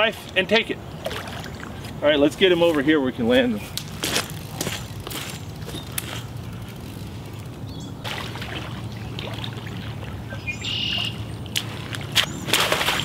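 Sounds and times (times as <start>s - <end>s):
pond water splashing: 0.8s - 2.9s, 3.6s - 13.0s.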